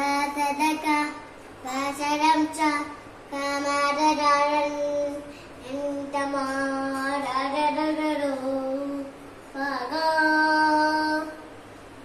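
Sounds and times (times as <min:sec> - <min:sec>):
child chanting a prayer: 0:00.0 - 0:11.5.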